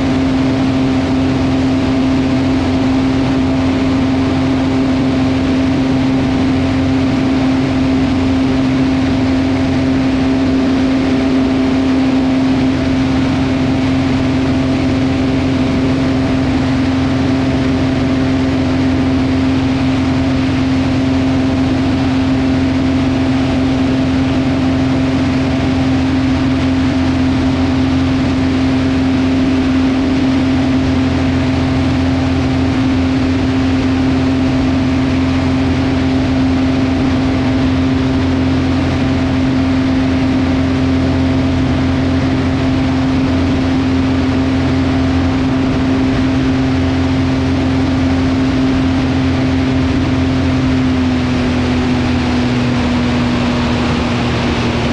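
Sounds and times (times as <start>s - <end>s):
aircraft piston engines droning: 0.0s - 54.9s.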